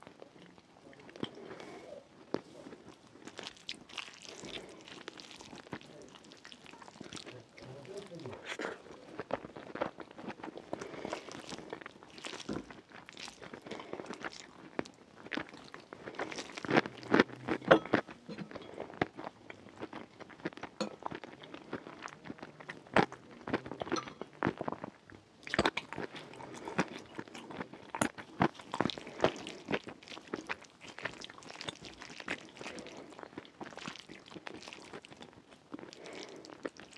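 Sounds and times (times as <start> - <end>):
person chewing: 0.0 - 36.9.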